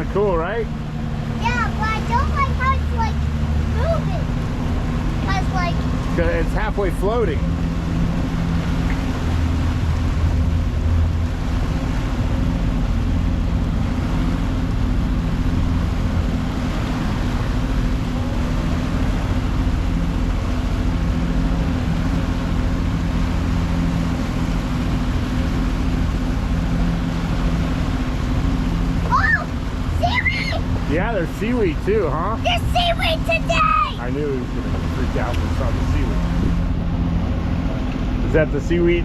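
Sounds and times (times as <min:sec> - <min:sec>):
motorboat engine running: 0:00.0 - 0:39.0
wind and water rushing: 0:00.0 - 0:39.0.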